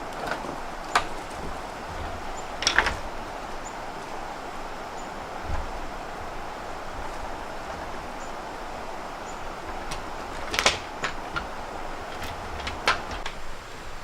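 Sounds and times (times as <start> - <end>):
objects knocking and clicking: 0.0 - 13.4
steady background hiss: 0.0 - 14.0.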